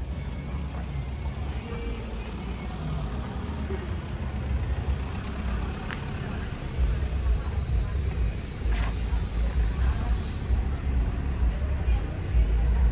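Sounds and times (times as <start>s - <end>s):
faint voices: 0.0s - 12.9s.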